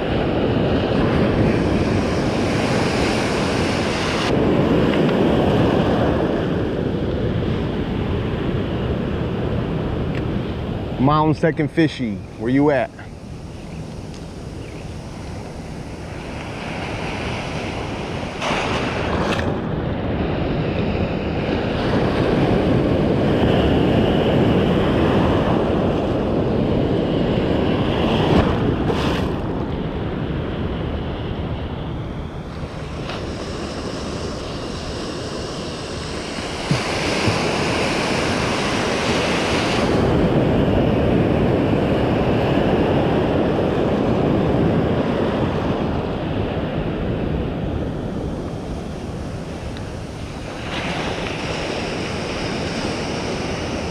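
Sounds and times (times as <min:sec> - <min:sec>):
ocean surf washing: 0:00.0 - 0:53.9
wind buffeting microphone: 0:00.0 - 0:53.9.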